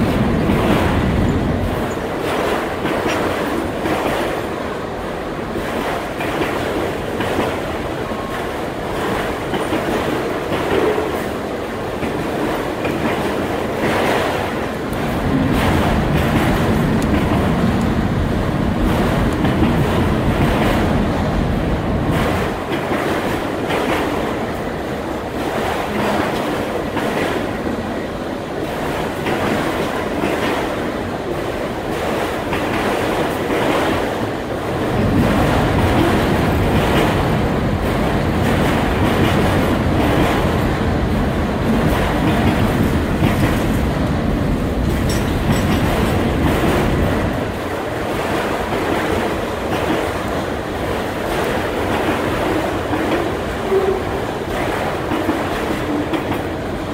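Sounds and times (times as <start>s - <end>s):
freight train wheels rumbling: 0.0s - 56.9s
wheels clacking over rail joints: 0.0s - 56.9s.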